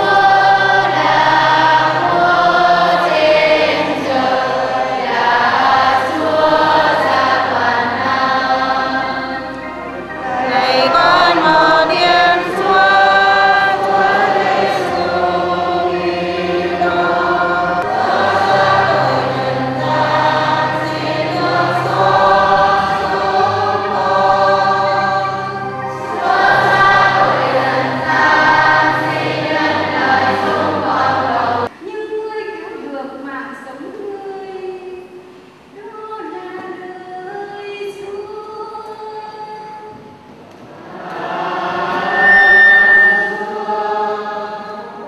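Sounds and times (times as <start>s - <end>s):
congregation singing a hymn: 0.0s - 31.8s, 36.2s - 45.0s.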